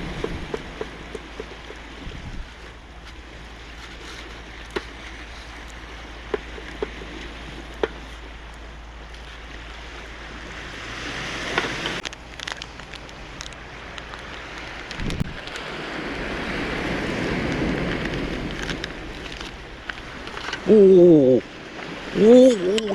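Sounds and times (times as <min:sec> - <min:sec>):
wind on microphone: 0:00.0 - 0:12.0, 0:14.6 - 0:22.9
surf washing on rocky shore: 0:00.0 - 0:22.9.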